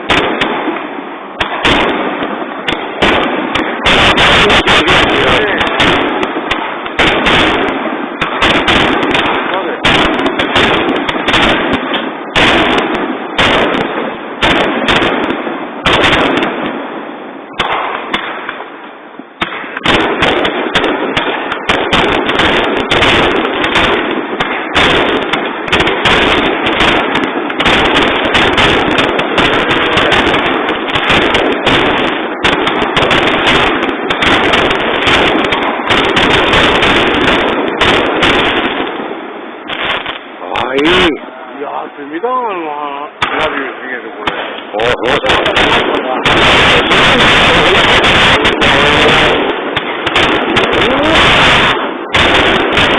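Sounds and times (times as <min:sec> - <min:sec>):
fireworks bursting and crackling: 0:00.0 - 0:52.9.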